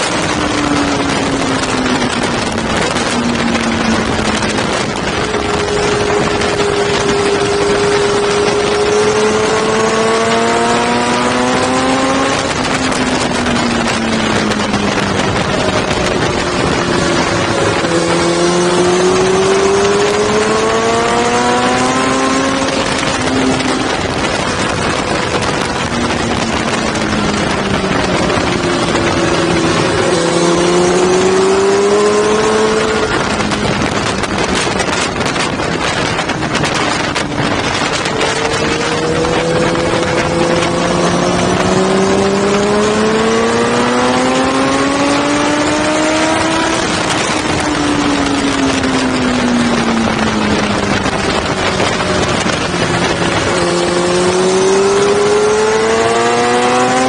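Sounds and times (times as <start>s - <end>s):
motorcycle engine revving: 0.0s - 57.0s
wind rush over microphone: 0.0s - 57.0s.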